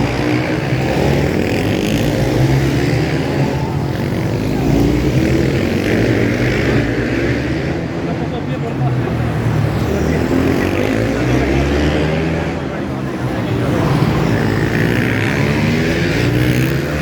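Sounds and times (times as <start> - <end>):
racing motorcycles revving: 0.0 - 17.0.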